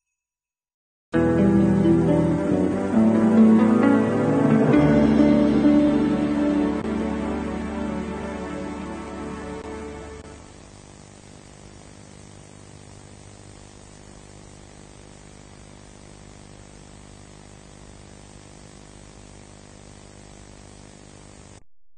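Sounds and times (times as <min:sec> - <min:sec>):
faint mains hum: 0:01.2 - 0:21.6
tape hiss: 0:01.2 - 0:21.6.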